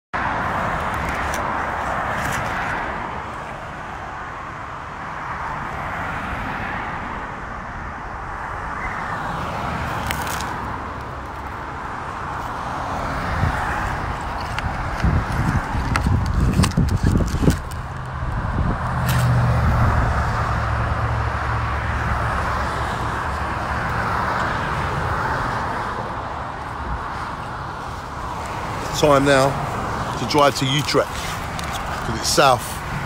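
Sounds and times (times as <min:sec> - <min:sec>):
motorway traffic passing: 0:00.2 - 0:33.0.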